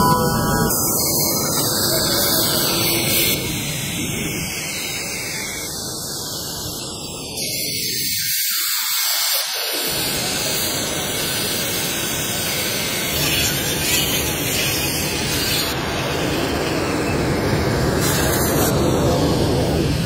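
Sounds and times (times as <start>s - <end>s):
pneumatic disc sander: 0.0s - 18.8s.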